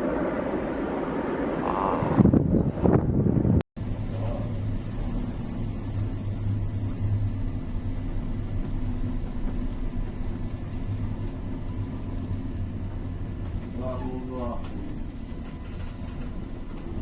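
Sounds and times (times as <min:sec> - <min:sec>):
low mechanical hum and rumble: 0:00.0 - 0:17.0.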